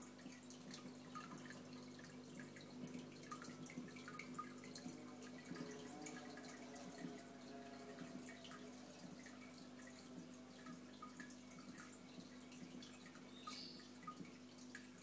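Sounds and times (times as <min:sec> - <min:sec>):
aquarium water trickling: 0:00.0 - 0:15.0.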